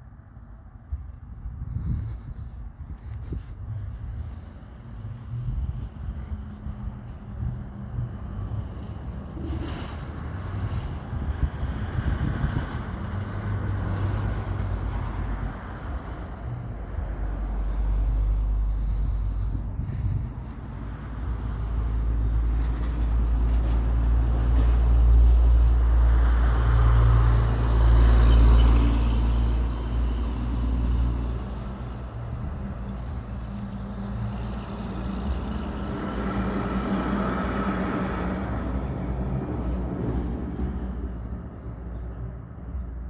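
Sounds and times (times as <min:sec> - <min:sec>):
road vehicles passing: 0:00.0 - 0:43.0
steady low rumble: 0:00.0 - 0:43.0.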